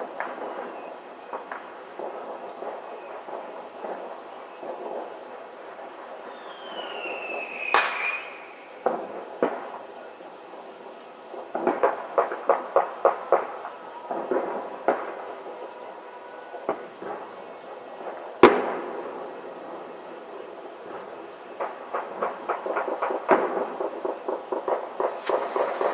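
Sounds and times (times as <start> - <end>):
firework cracks: 0.0 - 25.9
fireworks bangs: 0.0 - 25.9
whistling firework: 0.0 - 25.9.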